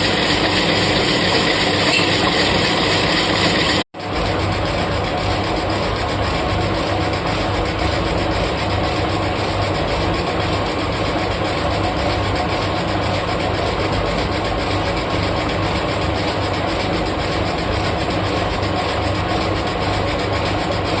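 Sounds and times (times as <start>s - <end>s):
lathe machine hum: 0.0s - 21.0s.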